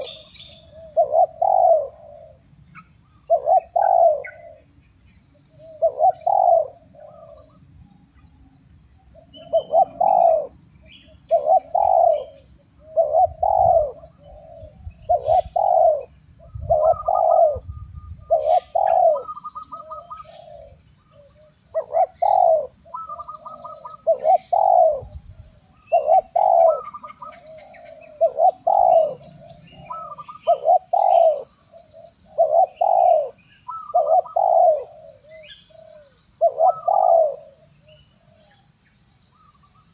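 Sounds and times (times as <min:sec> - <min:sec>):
dove cooing: 0:00.0 - 0:04.7, 0:05.3 - 0:07.6, 0:09.1 - 0:38.7
high-pitched insect drone: 0:00.0 - 0:39.9.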